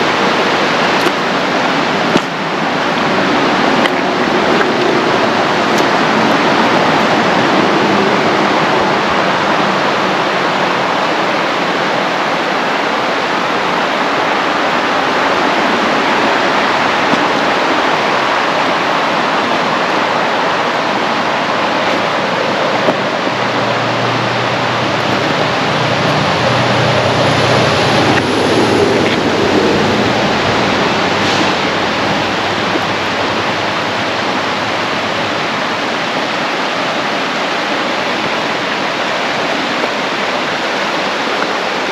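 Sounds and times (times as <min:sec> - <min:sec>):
road and wind noise: 0:00.0 - 0:41.9.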